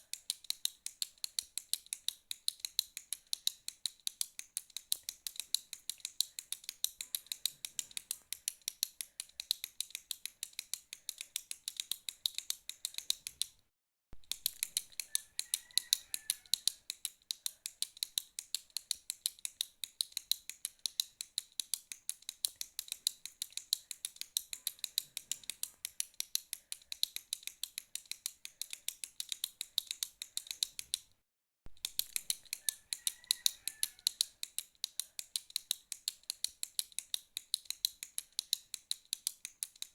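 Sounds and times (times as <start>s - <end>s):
retractable pen clicking: 0.0s - 13.6s, 14.2s - 31.2s, 31.8s - 39.9s.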